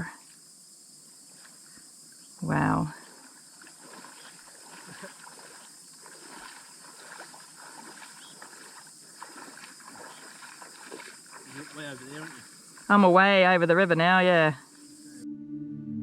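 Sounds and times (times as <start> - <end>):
crickets chirping: 0.0 - 15.2.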